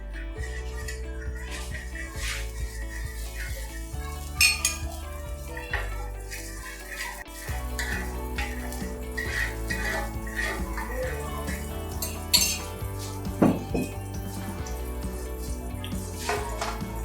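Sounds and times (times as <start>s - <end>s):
low background music: 0.0s - 17.0s
metal utensils clinking on cookware: 0.5s - 17.0s.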